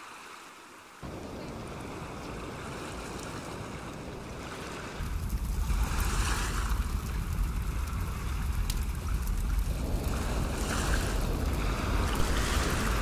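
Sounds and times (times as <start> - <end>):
surf washing: 0.0 - 13.0
wind buffeting microphone: 1.0 - 13.0.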